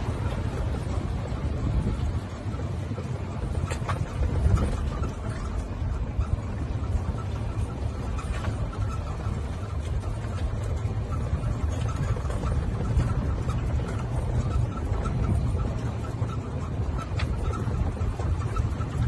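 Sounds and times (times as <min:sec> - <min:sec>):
golf cart rumbling: 0:00.0 - 0:19.0.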